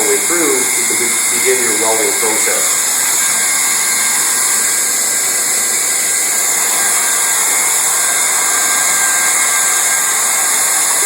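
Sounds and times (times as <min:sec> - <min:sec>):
hot-air blower hissing: 0:00.0 - 0:11.0.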